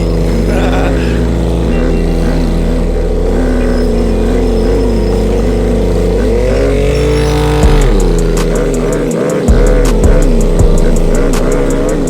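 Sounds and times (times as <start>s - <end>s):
atv engines running: 0.0s - 12.0s
deep bass line music: 0.0s - 12.0s.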